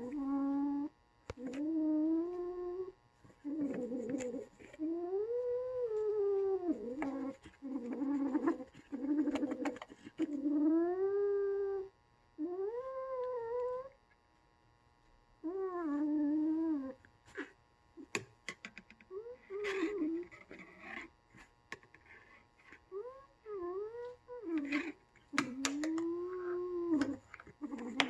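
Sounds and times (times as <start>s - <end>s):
kitten growling and yowling: 0.0s - 14.0s, 15.4s - 17.5s, 19.1s - 21.1s, 22.7s - 28.0s.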